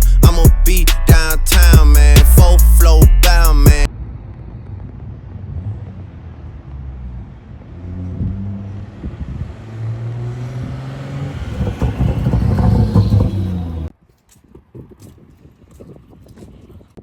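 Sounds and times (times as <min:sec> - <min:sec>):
car engine running at low revs: 0:00.0 - 0:13.9.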